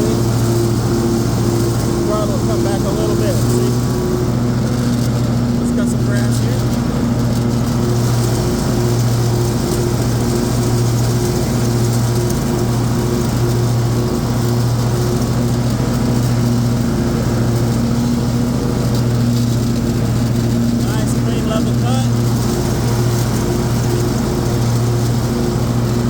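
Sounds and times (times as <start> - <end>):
mower cutting grass: 0.0 - 26.0
mower engine running: 0.0 - 26.0.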